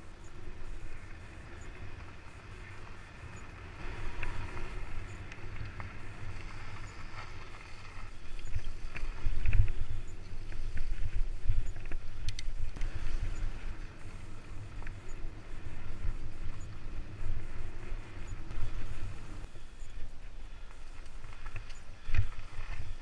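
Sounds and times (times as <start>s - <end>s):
bike rattles and clicks: 0.0s - 23.0s
bike tyres on gravel: 0.0s - 23.0s
wind buffeting microphone: 0.0s - 23.0s.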